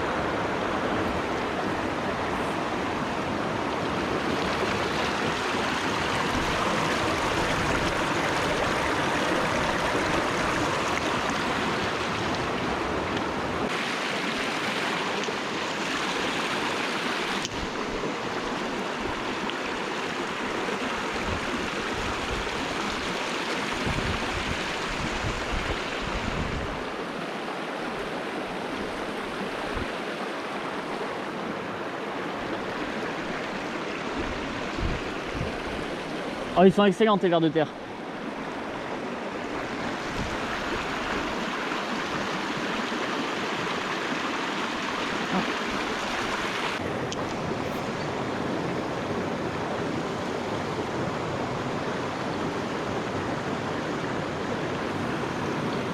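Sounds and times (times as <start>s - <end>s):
stream rushing: 0.0s - 55.9s.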